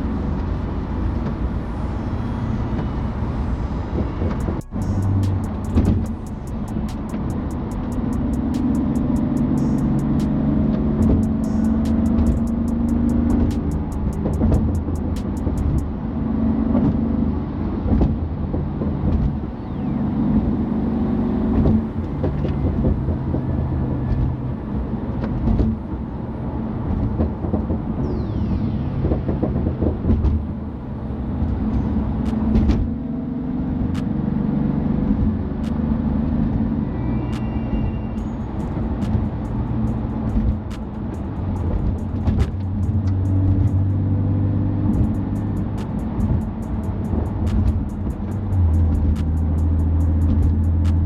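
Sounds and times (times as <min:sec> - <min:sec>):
car engine running: 0:00.0 - 0:17.0, 0:19.0 - 0:36.7, 0:38.2 - 0:51.0
car driving noise: 0:00.0 - 0:51.0.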